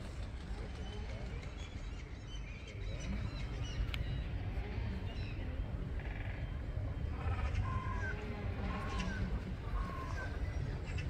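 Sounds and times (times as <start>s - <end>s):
voices in background: 0.0s - 11.0s.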